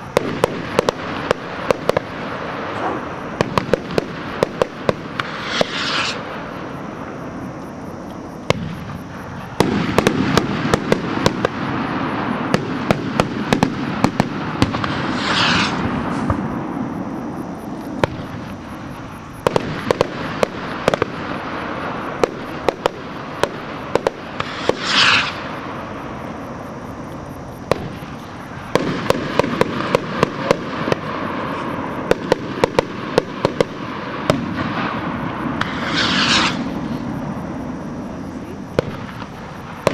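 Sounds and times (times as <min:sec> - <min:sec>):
fireworks shells bursting: 0:00.0 - 0:06.8, 0:08.4 - 0:16.9, 0:17.7 - 0:25.7, 0:27.7 - 0:37.4
fireworks rushing and crackling: 0:00.0 - 0:39.9.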